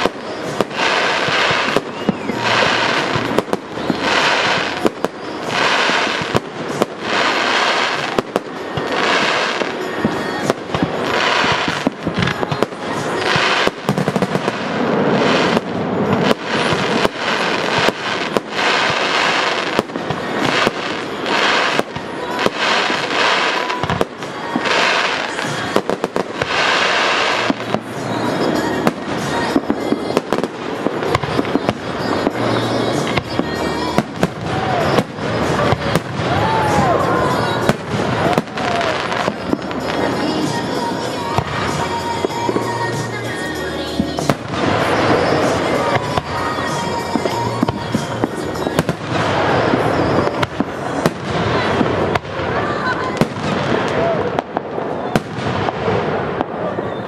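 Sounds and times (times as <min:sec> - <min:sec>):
firework bangs: 0:00.0 - 0:57.0
firework crackling bursts: 0:00.0 - 0:57.0.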